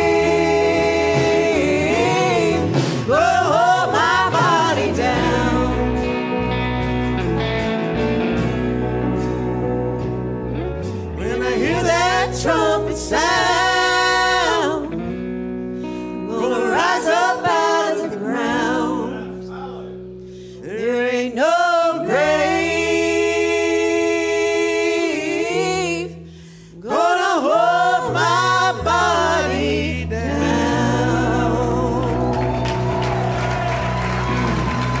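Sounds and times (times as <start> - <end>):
gospel choir singing in harmony: 0.0 - 15.2, 15.8 - 35.0
upright bass: 0.0 - 35.0.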